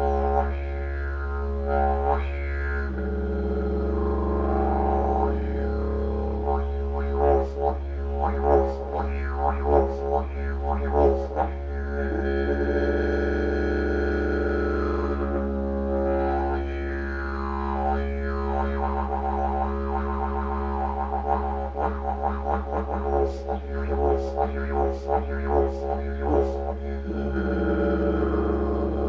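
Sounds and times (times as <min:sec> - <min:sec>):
didgeridoo drone: 0:00.0 - 0:29.0.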